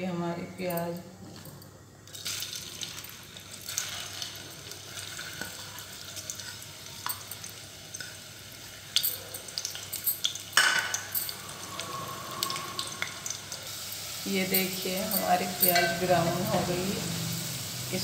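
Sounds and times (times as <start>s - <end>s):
onions sizzling in hot oil: 2.1s - 18.0s.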